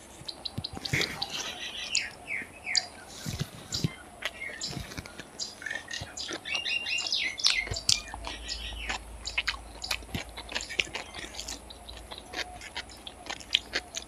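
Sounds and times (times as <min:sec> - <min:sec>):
birds chirping: 0:00.0 - 0:14.0
person chewing food: 0:00.0 - 0:14.0.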